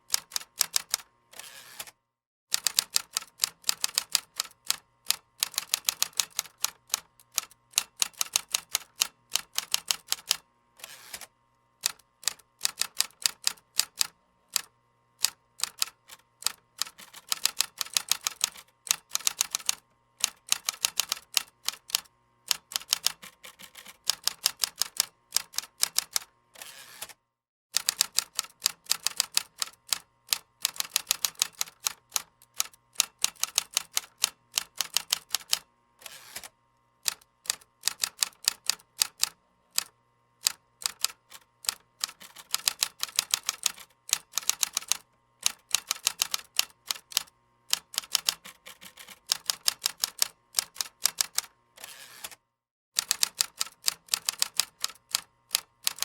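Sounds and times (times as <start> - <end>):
keyboard typing: 2.5 - 10.4, 11.8 - 26.3, 27.8 - 35.6, 37.1 - 51.5, 53.0 - 56.0.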